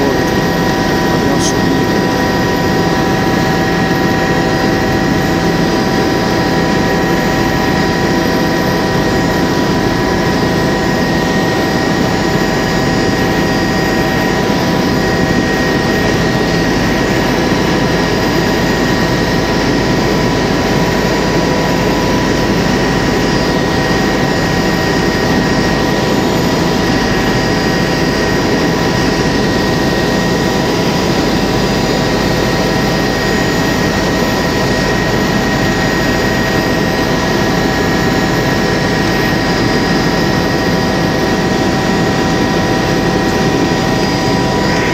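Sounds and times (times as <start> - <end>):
constant high whine: 0.0 - 44.9
helicopter engine and rotor drone: 0.0 - 44.9.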